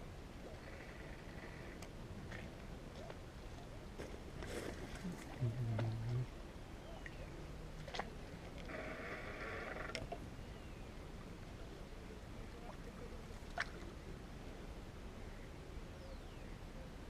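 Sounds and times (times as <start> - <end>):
river water: 0.0 - 17.0
wind: 0.0 - 17.0.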